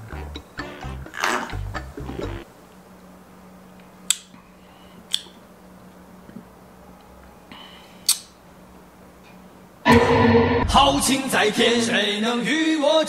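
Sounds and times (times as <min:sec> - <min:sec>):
faint steady hum: 0:00.0 - 0:12.8.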